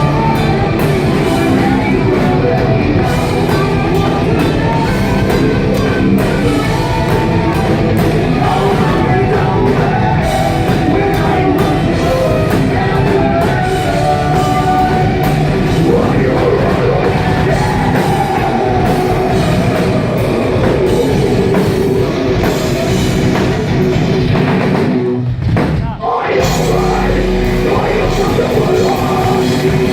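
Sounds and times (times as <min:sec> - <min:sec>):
singing: 0:00.0 - 0:23.1, 0:25.8 - 0:29.9
heavy metal band playing live: 0:00.0 - 0:29.9.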